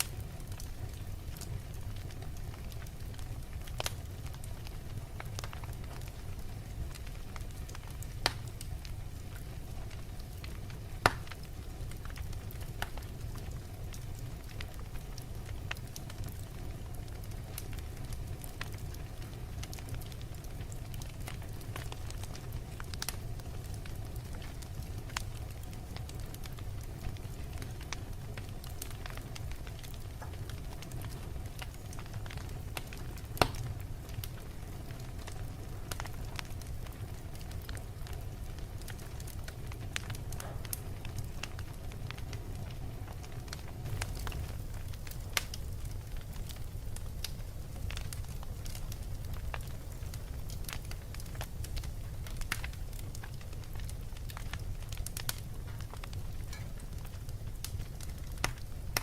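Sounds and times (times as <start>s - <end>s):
fireplace fire crackling: 0.0s - 59.0s
low rumble of flames: 0.0s - 59.0s.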